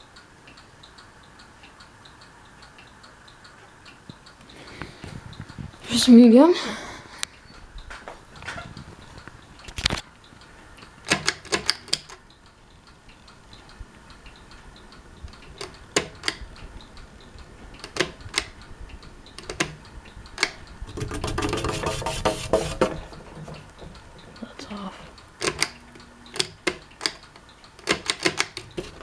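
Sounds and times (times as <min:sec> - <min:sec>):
ceiling fan running: 0:00.0 - 0:29.0
sharp clicks and ticks: 0:00.1 - 0:06.3, 0:08.4 - 0:29.0.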